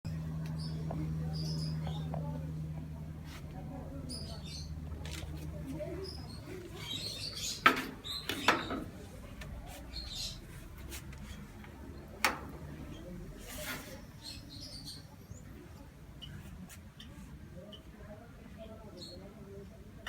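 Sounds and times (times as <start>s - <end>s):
low steady hum: 0.1s - 18.8s.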